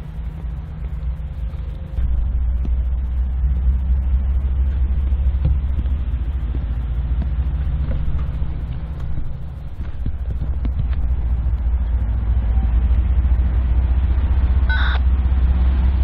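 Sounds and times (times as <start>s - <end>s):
diesel locomotives idling: 0.0s - 16.0s.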